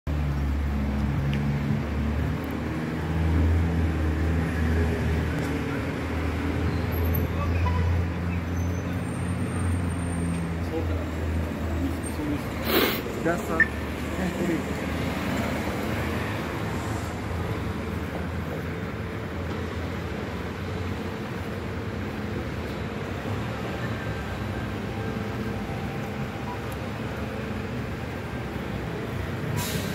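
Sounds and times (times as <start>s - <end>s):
bus passing: 0.1s - 29.9s
cars moving: 0.1s - 29.9s.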